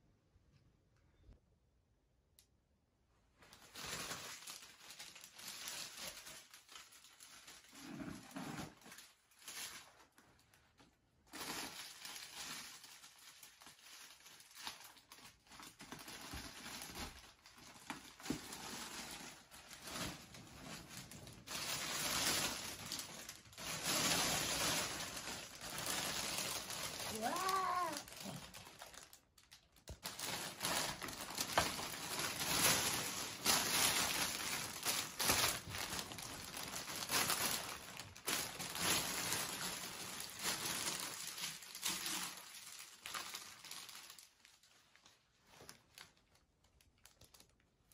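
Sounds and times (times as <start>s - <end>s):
wrapping paper rustling and crinkling: 3.3s - 47.9s.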